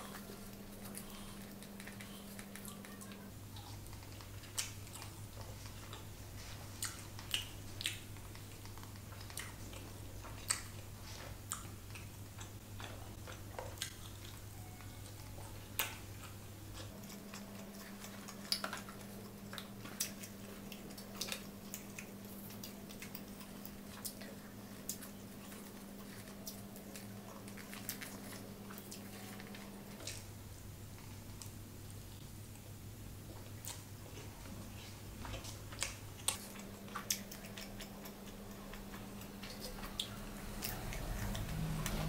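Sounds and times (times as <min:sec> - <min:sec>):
chewing and mouth clicks: 0:00.0 - 0:30.3, 0:30.9 - 0:42.0
steady low hum: 0:00.0 - 0:42.0.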